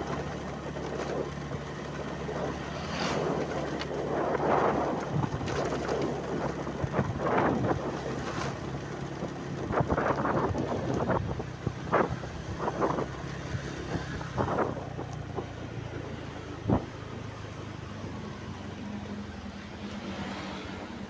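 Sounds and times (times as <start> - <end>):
wind buffeting microphone: 0.0 - 20.0
vehicle engine running: 0.0 - 21.0.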